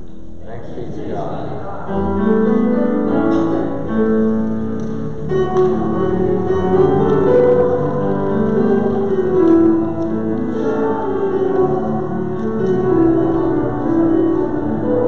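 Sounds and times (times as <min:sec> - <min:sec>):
keyboard playing slow chords: 0:01.1 - 0:15.0.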